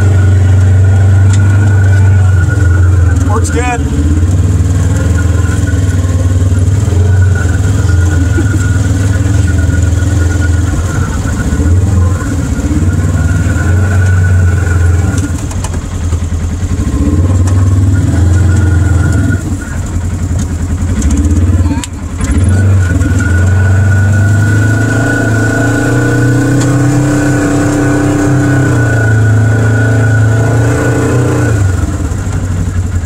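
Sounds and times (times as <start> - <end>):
off-road vehicle engine driving: 0.0 - 33.0.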